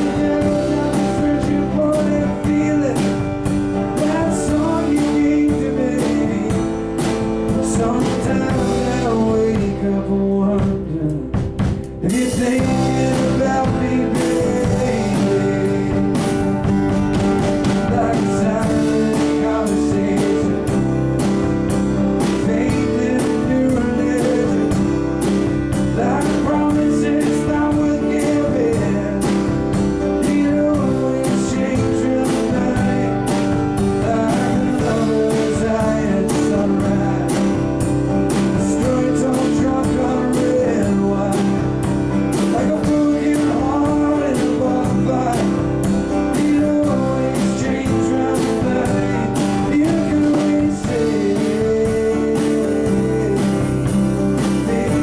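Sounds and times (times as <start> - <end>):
live band playing country-rock: 0.0 - 55.0.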